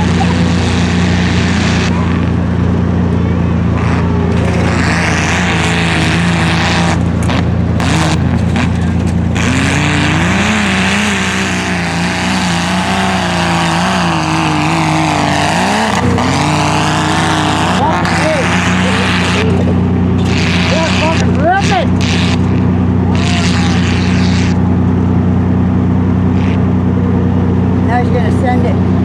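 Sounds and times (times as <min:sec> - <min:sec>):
truck engine revving: 0:00.0 - 0:29.0.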